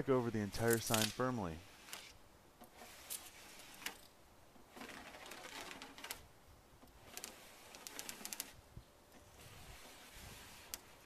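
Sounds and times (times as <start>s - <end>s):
squeegee scraping on vinyl: 0.0s - 6.2s, 7.0s - 8.6s, 9.2s - 11.0s.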